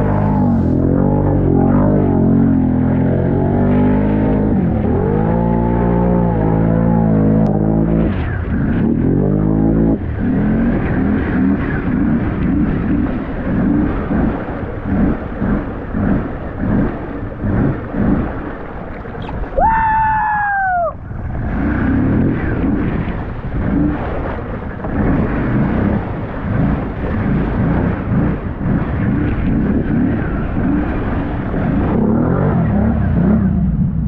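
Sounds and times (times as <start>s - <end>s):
gusting wind: 0.0s - 34.0s
uneven rumble: 0.0s - 34.0s.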